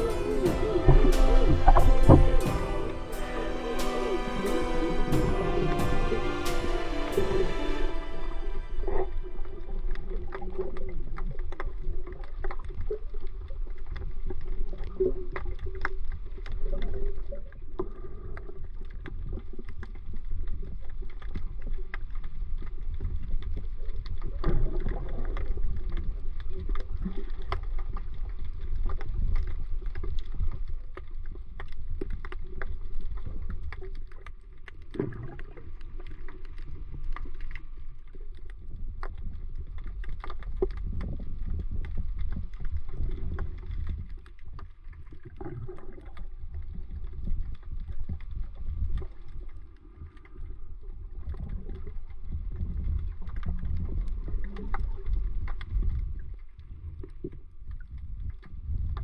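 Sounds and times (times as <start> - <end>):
muffled underwater water rumble: 0.0 - 59.0.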